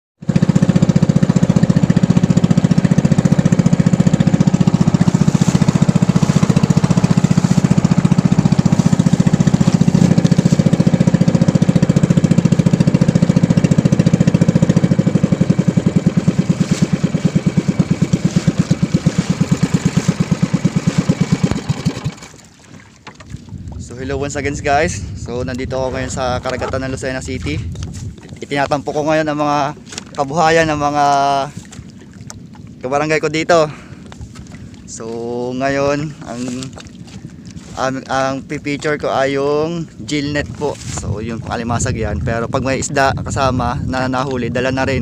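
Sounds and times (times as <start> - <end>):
boat engine pulsing: 0.2 - 45.0.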